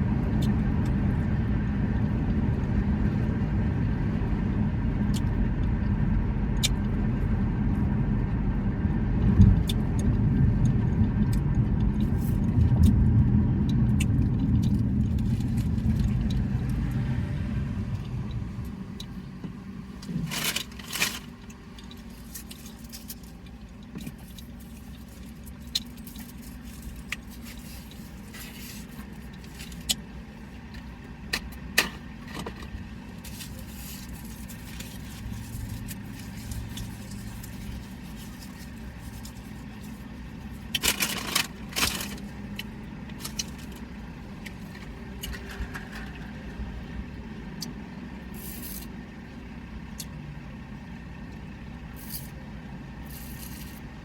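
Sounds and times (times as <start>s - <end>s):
vehicle rumble: 0.0s - 54.0s.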